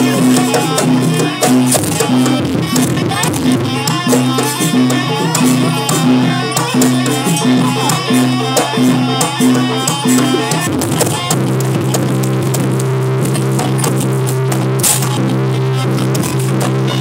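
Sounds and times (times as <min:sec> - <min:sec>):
gamelan music: 0:00.0 - 0:15.2.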